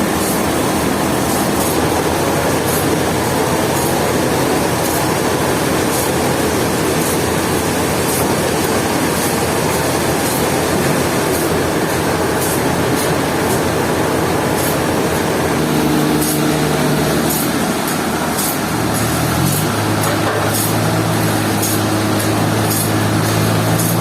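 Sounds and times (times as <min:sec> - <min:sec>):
sawmill machinery running: 0:00.0 - 0:24.0.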